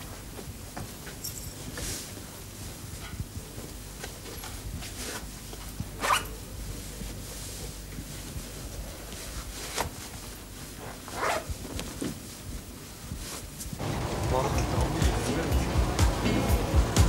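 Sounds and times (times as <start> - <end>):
fabric rustling: 0.0 - 14.2
low background hum: 0.0 - 17.0.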